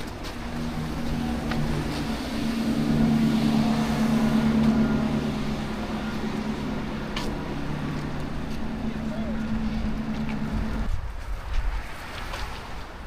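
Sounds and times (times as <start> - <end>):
vehicle engine humming: 0.0 - 10.9
street noise: 0.0 - 13.0.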